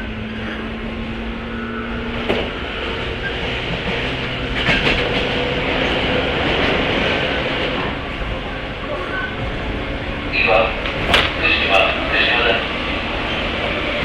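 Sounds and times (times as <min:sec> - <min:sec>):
train traction motors humming: 0:00.0 - 0:14.0
wheel and rail rumble: 0:00.0 - 0:14.0
wheel clicks over rail joints: 0:00.0 - 0:14.0.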